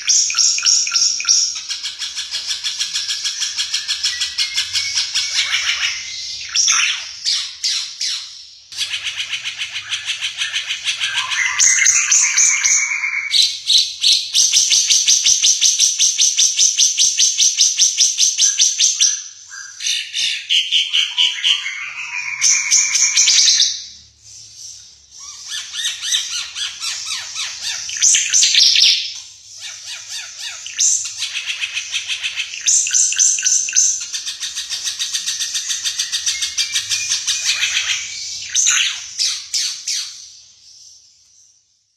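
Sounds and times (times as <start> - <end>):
bird singing: 0.0 - 41.9.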